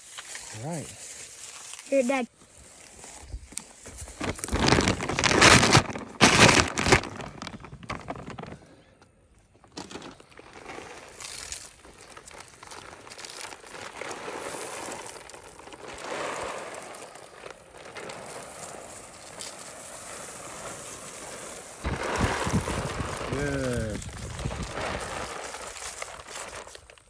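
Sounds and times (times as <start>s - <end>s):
gear rustling and crinkling: 0.0s - 27.0s.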